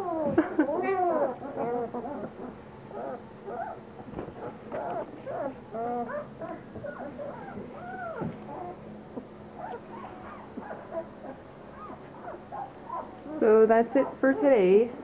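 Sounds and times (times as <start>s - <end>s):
puppies whimpering and squeaking: 0.0s - 15.0s.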